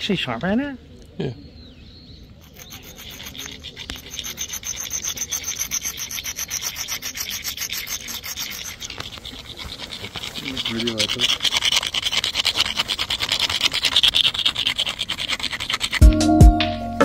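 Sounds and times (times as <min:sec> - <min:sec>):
stone scraping on stone: 0:02.4 - 0:16.3.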